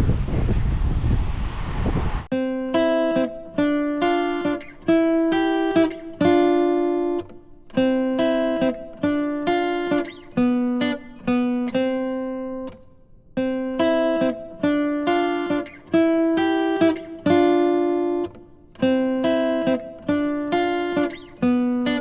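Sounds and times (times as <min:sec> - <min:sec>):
acoustic guitar picking: 0:02.3 - 0:22.0.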